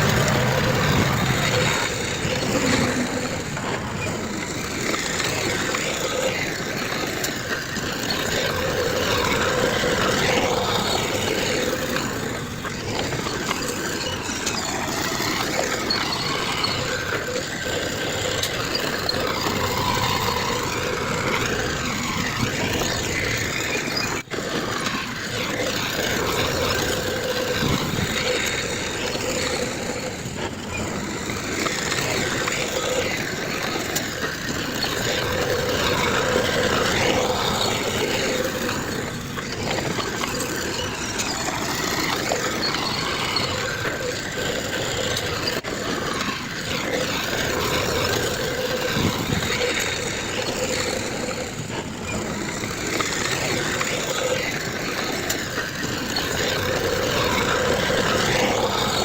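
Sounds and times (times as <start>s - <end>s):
heavy diesel machinery engines: 0.0s - 59.0s.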